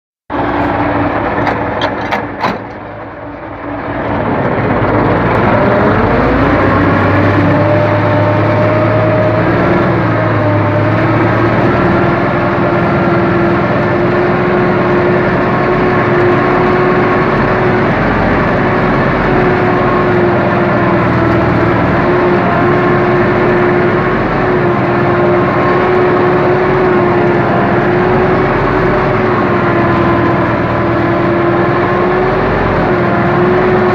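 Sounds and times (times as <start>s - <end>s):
tractor diesel engine: 0.3s - 33.9s.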